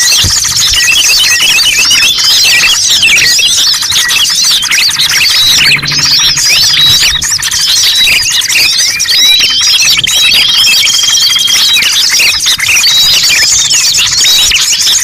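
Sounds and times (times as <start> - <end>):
songbirds chirping and squealing: 0.0 - 15.0.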